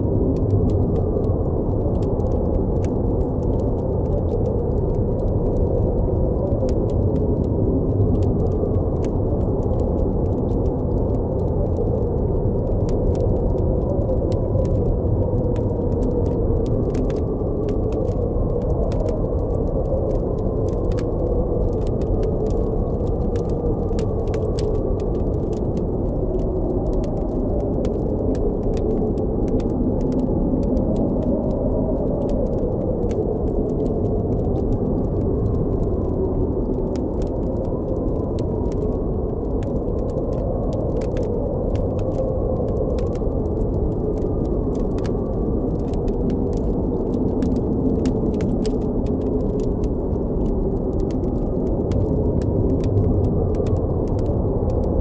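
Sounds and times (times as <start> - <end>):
blizzard wind howling: 0.0 - 55.0
campfire crackling and popping: 0.0 - 55.0.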